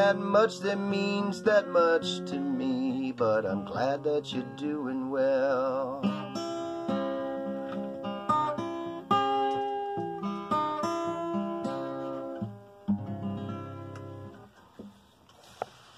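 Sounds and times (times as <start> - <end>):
acoustic guitar playing: 0.0 - 14.6.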